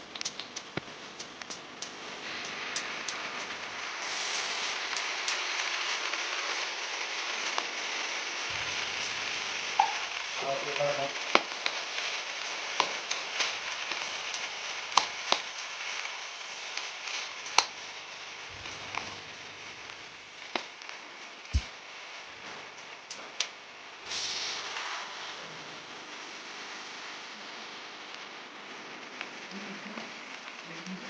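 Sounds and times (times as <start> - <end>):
food sizzling in hot oil: 0.0 - 25.3.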